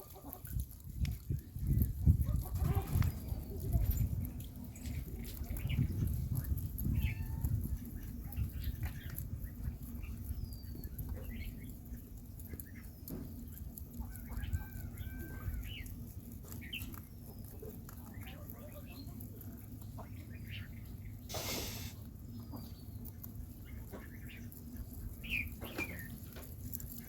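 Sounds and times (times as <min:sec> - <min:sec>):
steady low rumble: 0:00.4 - 0:27.0.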